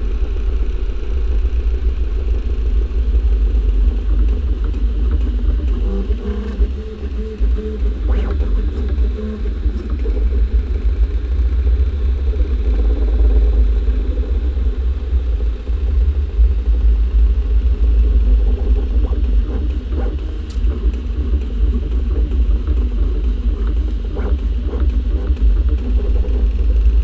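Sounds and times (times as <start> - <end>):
three d printer motors humming: 0.0 - 27.0.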